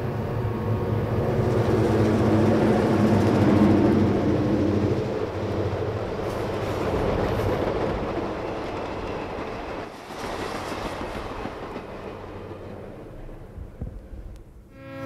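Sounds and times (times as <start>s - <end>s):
freight train passing: 0.0s - 14.6s
clickety-clack of freight cars: 1.1s - 14.2s.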